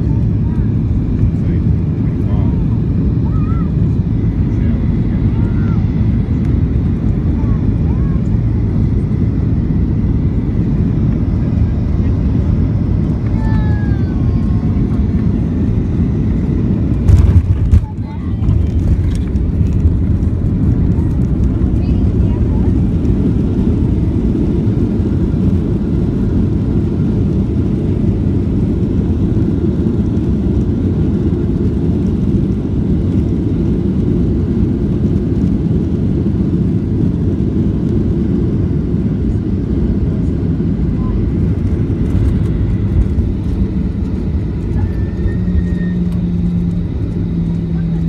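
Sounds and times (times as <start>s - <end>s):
jet engines and wheels rumbling: 0.0s - 48.0s.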